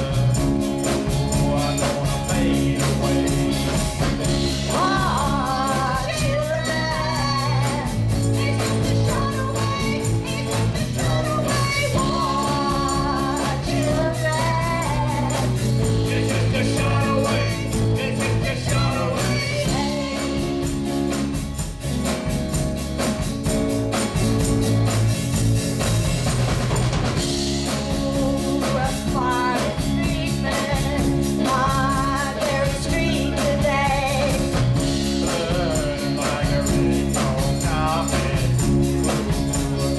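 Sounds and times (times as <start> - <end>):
person singing: 0.0 - 20.9, 27.5 - 39.9
live rock band playing: 0.0 - 39.9.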